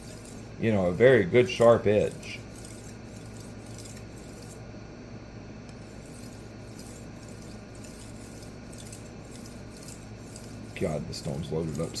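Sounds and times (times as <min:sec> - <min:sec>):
knife scraping on sharpening stone: 0:00.0 - 0:00.5, 0:01.4 - 0:04.6, 0:05.8 - 0:12.0.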